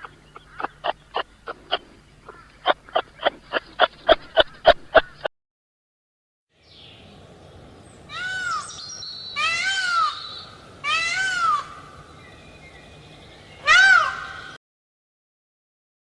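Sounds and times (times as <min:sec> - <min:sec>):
steady background hiss: 0:00.0 - 0:05.2, 0:06.6 - 0:14.6.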